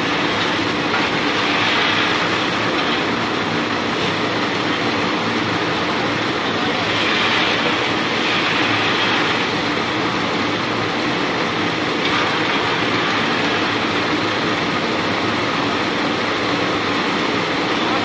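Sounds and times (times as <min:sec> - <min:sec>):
hulling machine running: 0:00.0 - 0:18.0.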